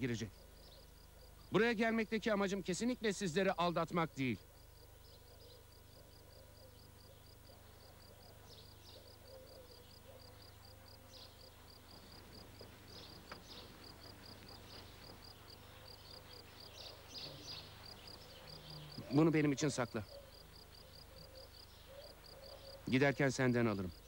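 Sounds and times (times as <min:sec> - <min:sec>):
insect chirping: 0:00.0 - 0:01.7, 0:04.3 - 0:24.0.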